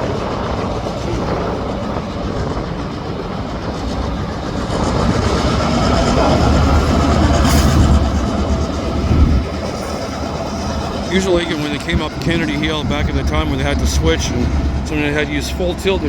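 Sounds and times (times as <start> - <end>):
freight cars rattling: 0.0 - 16.0
locomotive engine rumble: 0.0 - 16.0.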